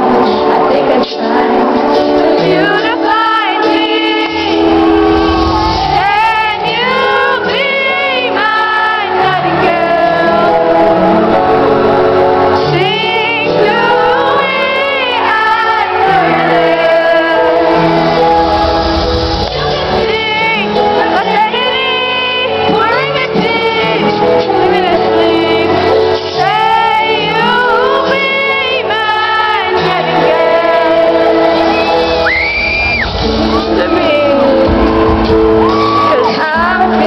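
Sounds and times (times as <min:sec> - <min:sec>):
woman singing with vibrato: 0:00.0 - 0:32.6, 0:33.2 - 0:37.0.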